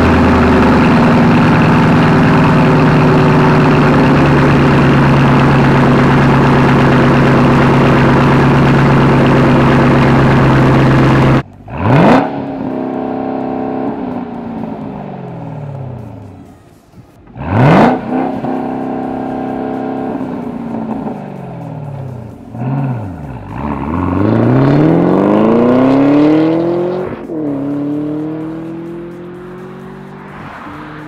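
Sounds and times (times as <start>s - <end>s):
engine revving up: 0.0s - 15.0s, 17.4s - 21.0s, 22.5s - 31.0s
car engine running loud: 0.0s - 16.5s, 17.2s - 31.0s.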